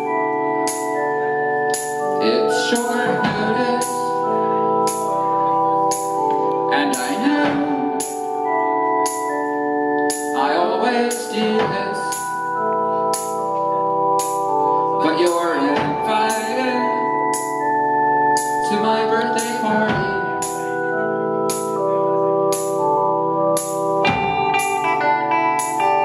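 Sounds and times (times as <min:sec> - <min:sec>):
keyboard organ-like chords: 0:00.0 - 0:26.0.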